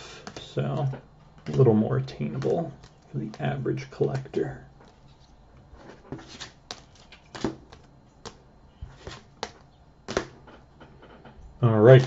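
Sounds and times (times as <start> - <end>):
foil pack crinkling: 0.1 - 10.4.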